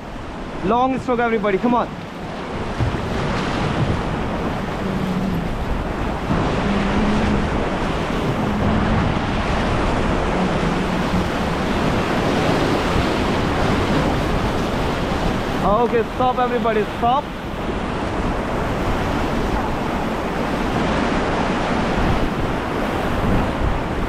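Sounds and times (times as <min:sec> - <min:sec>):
river water rushing: 0:00.0 - 0:24.0
wind buffeting microphone: 0:00.0 - 0:24.0.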